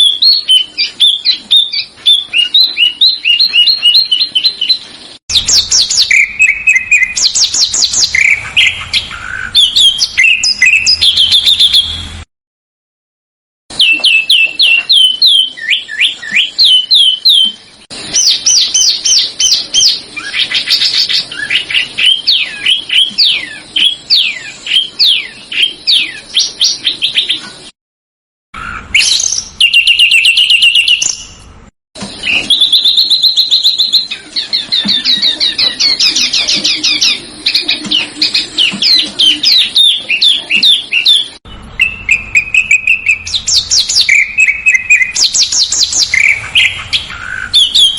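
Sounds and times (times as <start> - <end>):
songbird chirps and trills: 0.0 - 12.2, 13.7 - 27.7, 28.6 - 47.9.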